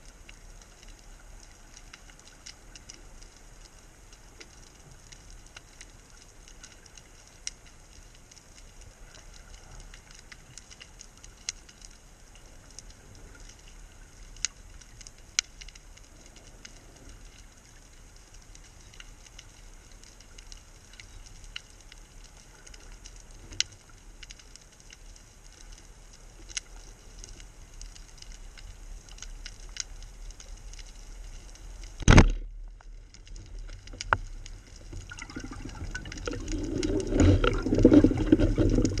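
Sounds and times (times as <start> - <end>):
underwater crackle: 0.0 - 39.0.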